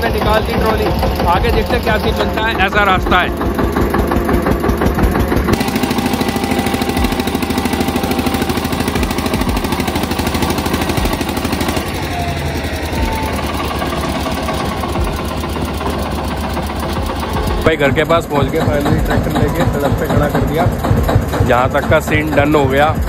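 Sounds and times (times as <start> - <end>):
tractor diesel engine chugging: 0.0 - 23.0.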